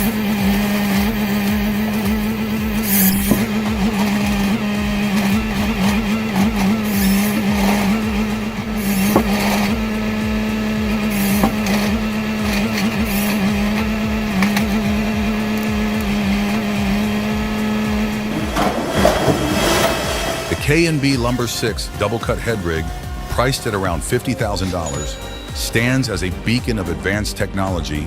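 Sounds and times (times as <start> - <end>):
scattered knocks: 0.0 - 26.1
heavy machinery humming: 0.0 - 27.5.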